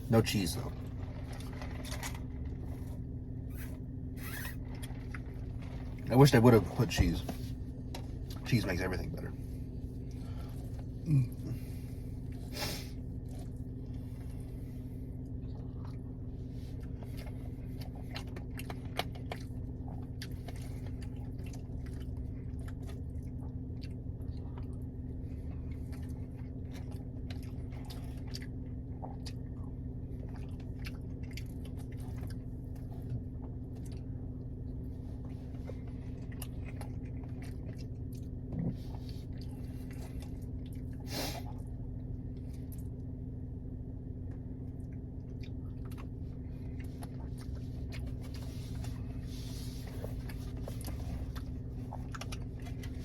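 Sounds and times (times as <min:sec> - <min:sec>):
chewing and biting food: 0:00.0 - 0:06.1, 0:06.8 - 0:43.3, 0:44.2 - 0:53.0
steady low hum: 0:00.0 - 0:53.0.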